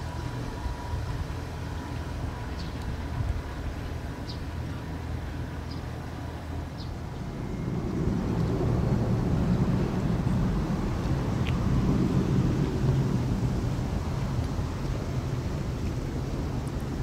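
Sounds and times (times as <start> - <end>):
outboard motor rumbling: 0.0 - 17.0.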